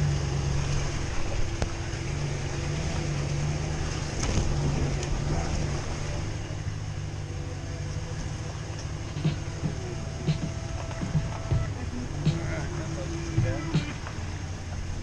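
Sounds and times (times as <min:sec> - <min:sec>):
truck engine running at low revs: 0:00.0 - 0:15.0.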